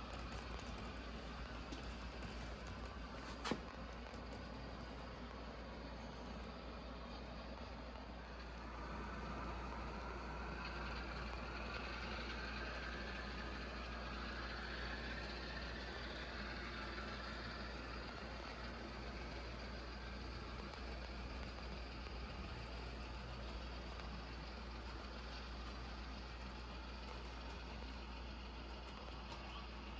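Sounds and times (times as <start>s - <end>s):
model train running on track: 0.0s - 29.9s.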